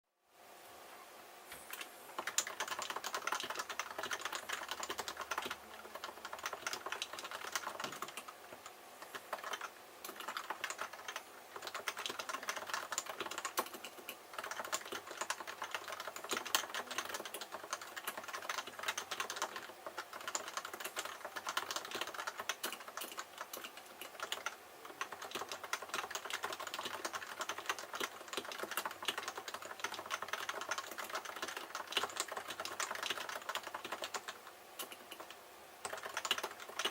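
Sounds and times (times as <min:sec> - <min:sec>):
keyboard typing: 0:01.6 - 0:36.9.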